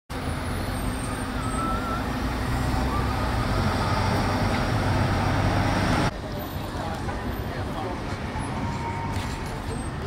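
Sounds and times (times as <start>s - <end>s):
city traffic rumble: 0.1s - 10.0s.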